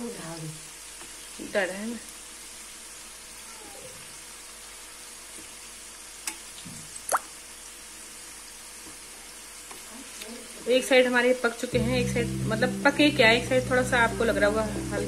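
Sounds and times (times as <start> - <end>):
dumplings sizzling in oil: 0.0 - 15.0.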